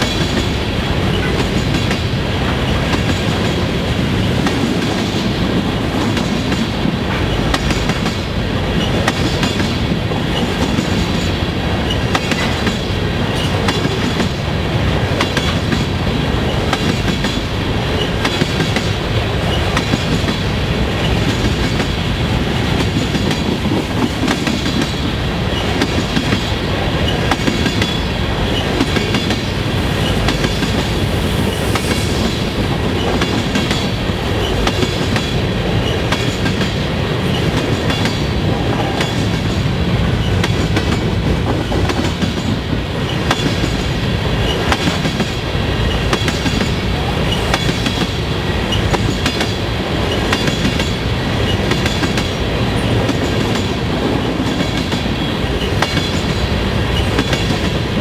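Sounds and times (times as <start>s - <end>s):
clickety-clack over rail joints: 0.0s - 31.0s, 31.6s - 58.0s
train wheels rumbling on rail: 0.0s - 58.0s.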